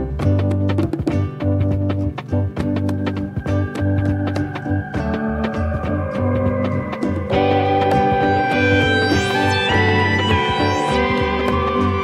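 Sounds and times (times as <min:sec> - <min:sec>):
background music with bass and beat: 0:00.0 - 0:12.0.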